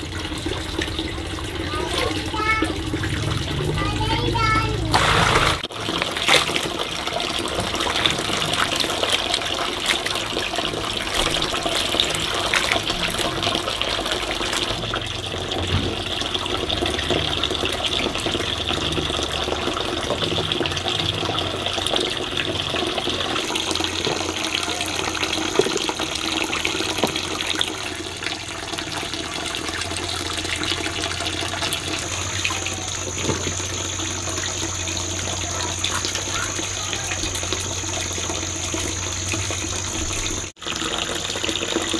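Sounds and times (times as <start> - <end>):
water running and splashing: 0.0 - 41.9.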